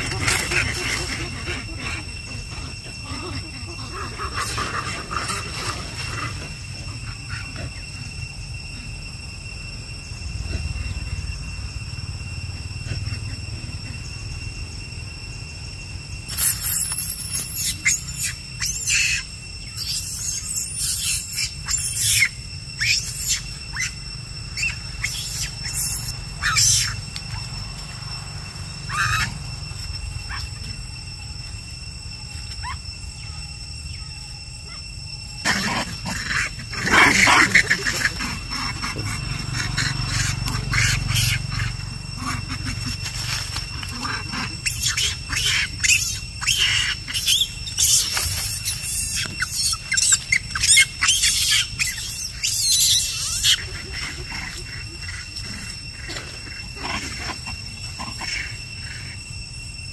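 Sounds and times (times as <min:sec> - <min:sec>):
macaques squealing and screeching: 0:00.0 - 0:14.8, 0:15.8 - 0:59.8.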